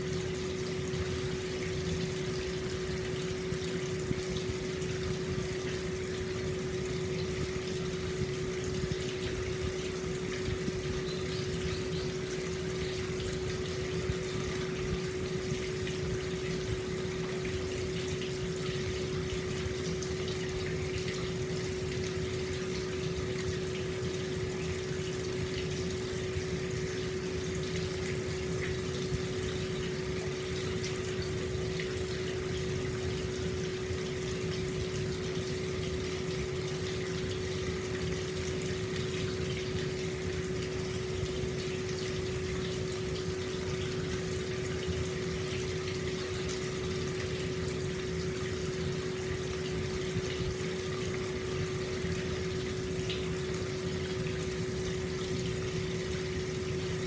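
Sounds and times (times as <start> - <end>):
constant hum: 0.0 - 57.0
water flowing into a bath: 0.0 - 57.0.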